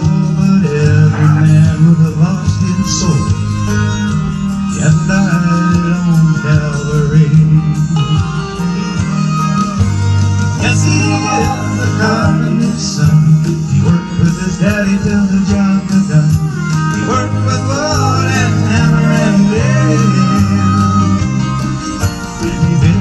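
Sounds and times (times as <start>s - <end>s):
man singing into a microphone: 0.0s - 9.1s, 10.6s - 23.0s
guitar accompaniment: 0.0s - 23.0s
steady bass line: 0.0s - 23.0s.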